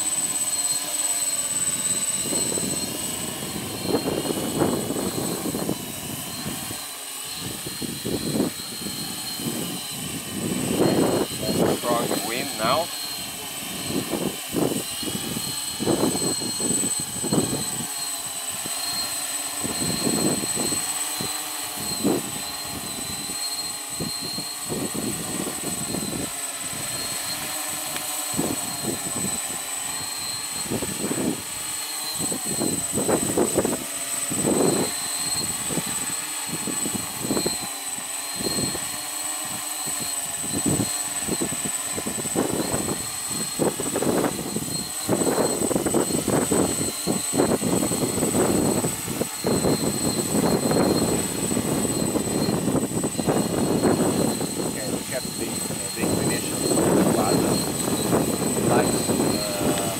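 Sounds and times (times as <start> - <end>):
multirotor drone humming: 0.0 - 59.9
wind buffeting microphone: 1.4 - 59.9.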